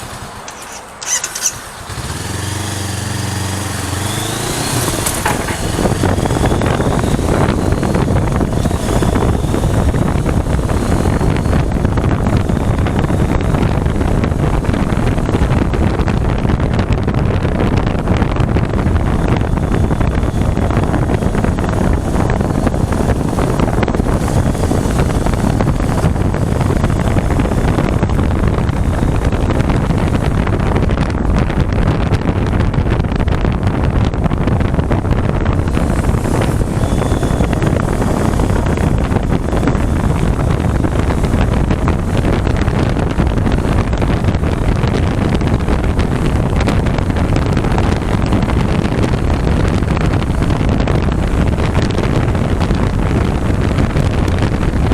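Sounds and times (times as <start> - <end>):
motorcycle engine: 0.0 - 54.9
road noise: 0.0 - 54.9
wind buffeting microphone: 0.0 - 54.9.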